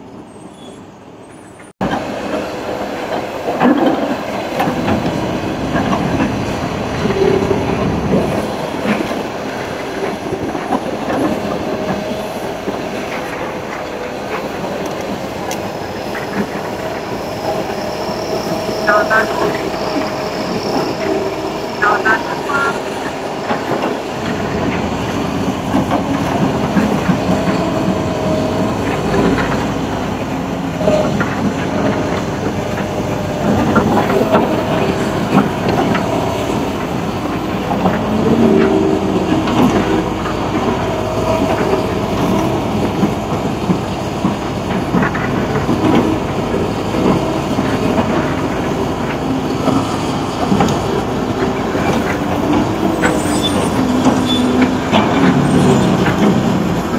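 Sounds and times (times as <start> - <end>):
excavator engine running: 1.8 - 56.9
hydraulic whines: 2.3 - 50.1, 50.7 - 56.9.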